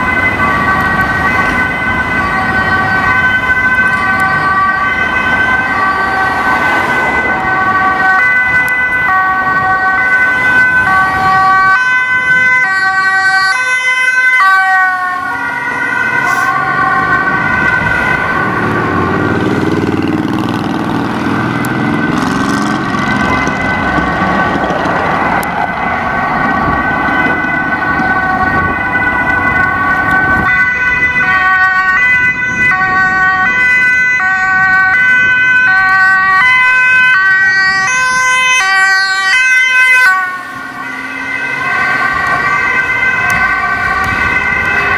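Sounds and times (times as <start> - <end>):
road traffic: 0.0 - 44.9
two-tone ambulance siren: 0.0 - 44.9.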